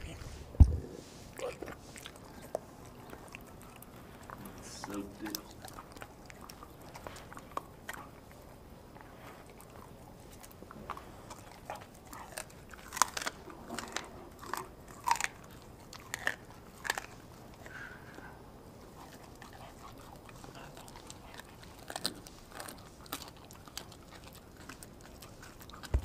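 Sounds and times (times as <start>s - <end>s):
dog chewing food crunches: 1.3s - 26.0s.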